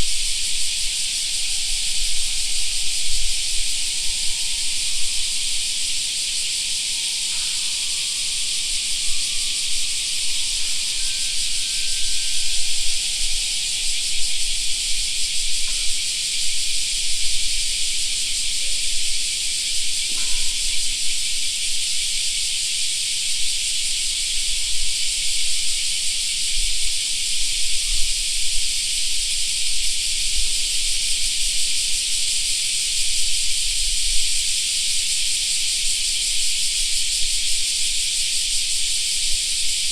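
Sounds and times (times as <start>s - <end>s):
cicadas droning: 0.0s - 39.9s.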